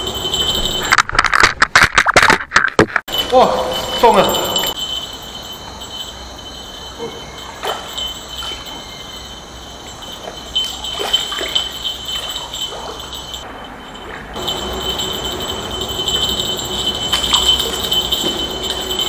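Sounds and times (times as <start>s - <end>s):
high-pitched ringing tone: 0.0s - 1.0s, 3.1s - 19.0s.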